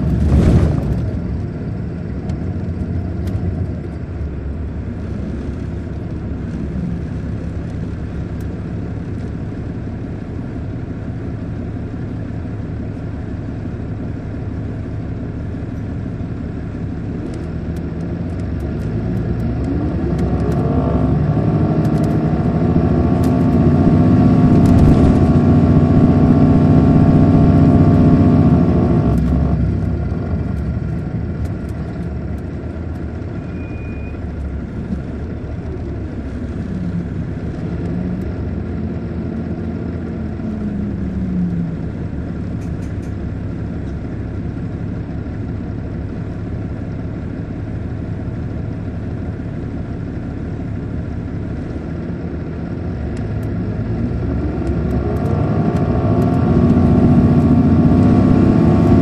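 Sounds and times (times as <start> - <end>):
coach diesel engine: 0.0 - 59.0
road noise: 0.0 - 59.0.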